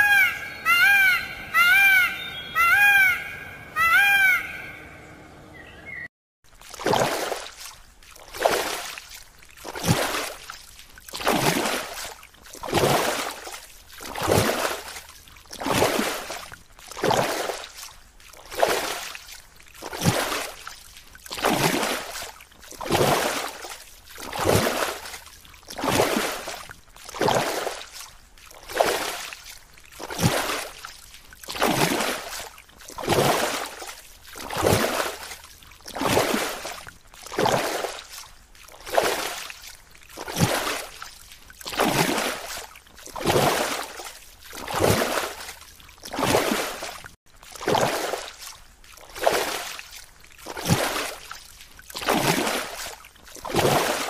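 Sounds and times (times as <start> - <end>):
water sloshing rhythmically: 0.0 - 54.0.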